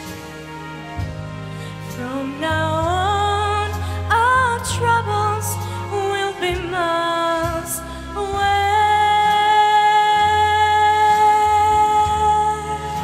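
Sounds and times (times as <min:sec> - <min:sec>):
instrumental accompaniment: 0:00.0 - 0:13.0
woman singing a slow ballad: 0:01.6 - 0:13.0.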